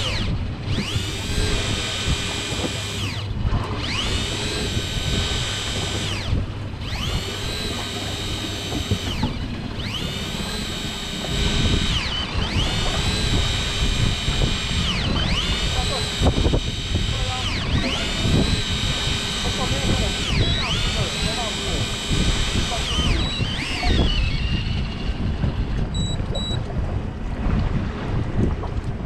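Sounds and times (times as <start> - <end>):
electric fishing reel motor whining: 0.0 - 26.7
low steady rumble: 0.0 - 29.0.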